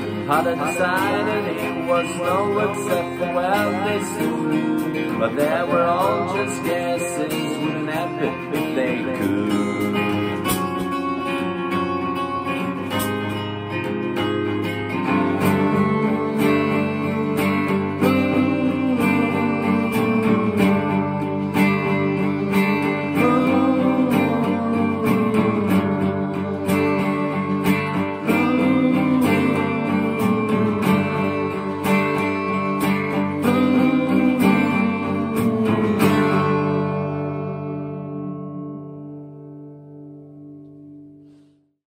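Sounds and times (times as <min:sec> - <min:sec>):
melody with gliding notes: 0:00.0 - 0:39.9
acoustic guitar strumming: 0:00.0 - 0:41.6.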